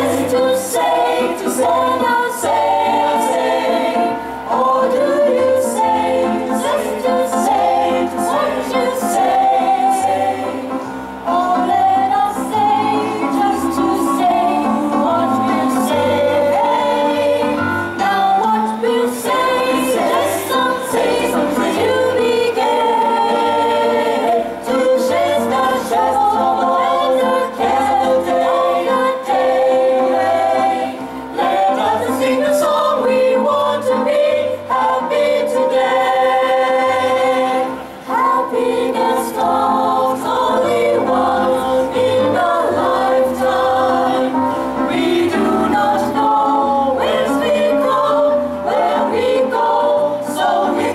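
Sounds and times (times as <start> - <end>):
mixed choir singing: 0.0 - 50.9.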